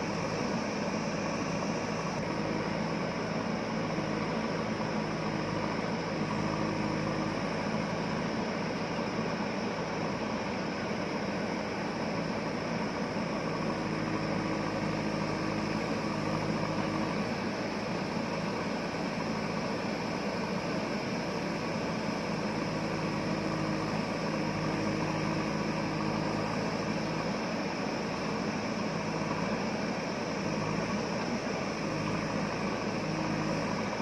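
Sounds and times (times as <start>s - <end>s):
backhoe diesel engine running: 0.0s - 34.0s.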